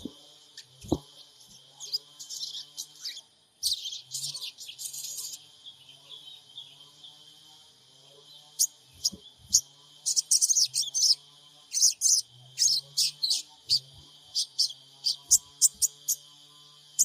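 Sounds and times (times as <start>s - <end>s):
bird chirping and twittering: 0.0s - 7.1s, 8.3s - 16.3s.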